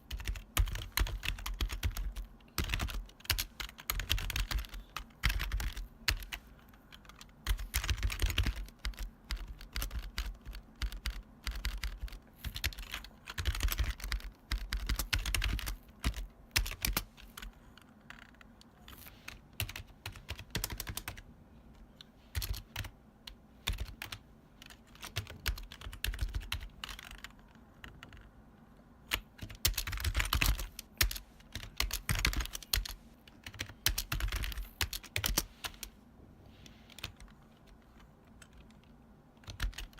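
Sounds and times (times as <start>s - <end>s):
mechanical keyboard typing: 0.0s - 21.2s, 22.3s - 28.3s, 29.0s - 35.9s, 36.9s - 39.9s.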